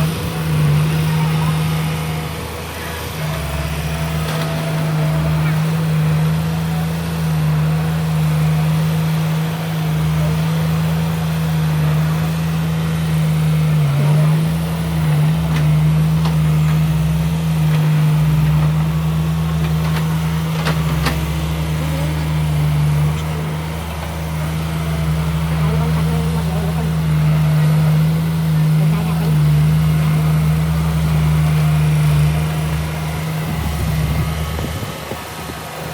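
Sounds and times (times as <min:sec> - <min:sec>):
diesel machinery engine hum: 0:00.0 - 0:35.9.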